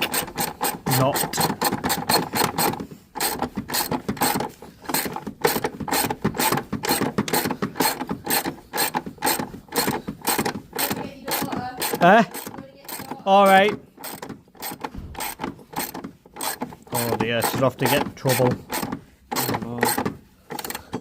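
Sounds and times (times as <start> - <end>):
socket ratchet wrench clicking: 0.0 - 16.7, 17.4 - 21.0.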